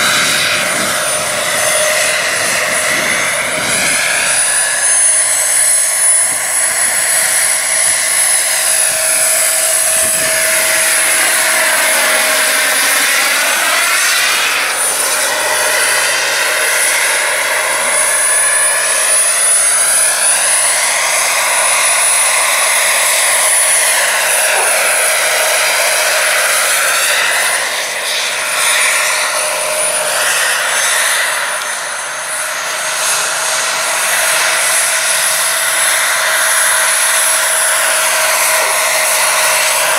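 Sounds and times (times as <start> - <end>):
jet and rotor rush: 0.0 - 39.9
model helicopter turbine whistle: 0.0 - 39.9.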